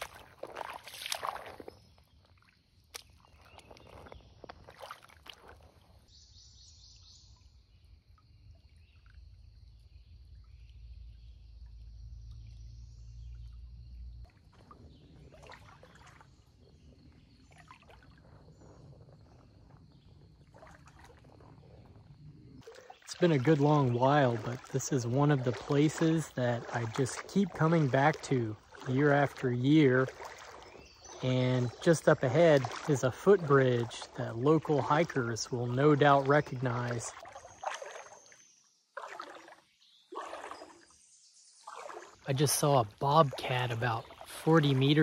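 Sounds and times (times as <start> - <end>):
creek water splashing: 0.0 - 7.0, 8.3 - 45.0.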